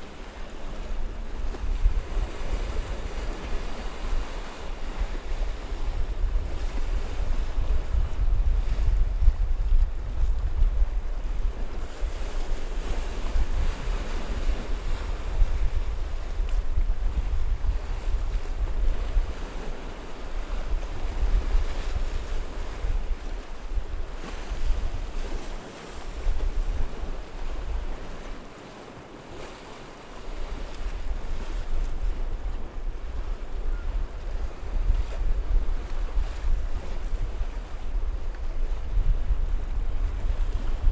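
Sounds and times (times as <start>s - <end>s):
wind buffeting microphone: 0.9s - 28.3s, 30.3s - 40.9s.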